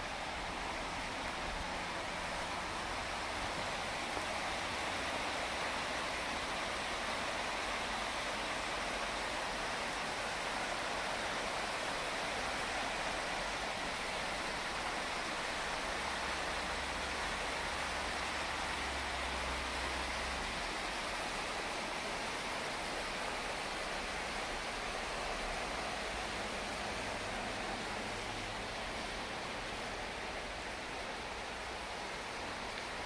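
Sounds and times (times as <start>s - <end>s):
water rushing over rocks: 0.0s - 33.0s.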